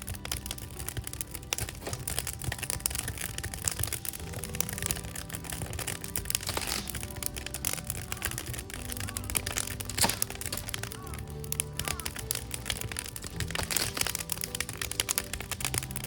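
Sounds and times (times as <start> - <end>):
soft background music: 0.0 - 16.0
wood fire crackling: 0.0 - 16.0.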